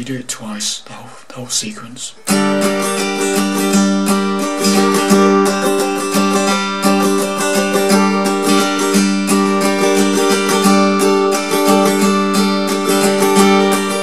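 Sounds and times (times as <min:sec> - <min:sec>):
acoustic guitar strumming: 0:02.2 - 0:14.0.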